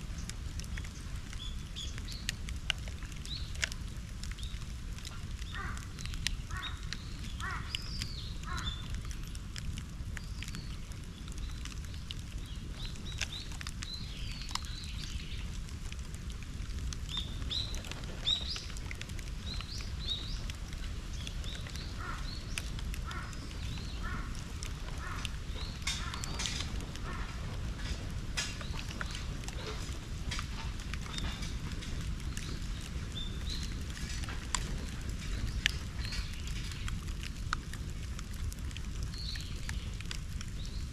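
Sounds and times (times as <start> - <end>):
bonfire crackling: 0.0 - 40.9
small birds chirping: 0.0 - 40.9
steady low rumble: 0.0 - 40.9.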